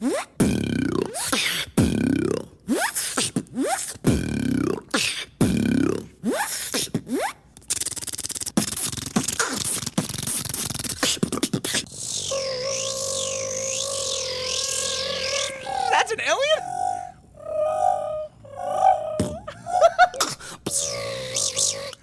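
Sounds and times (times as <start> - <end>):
beatboxing sound effects: 0.0 - 17.2, 19.1 - 22.0.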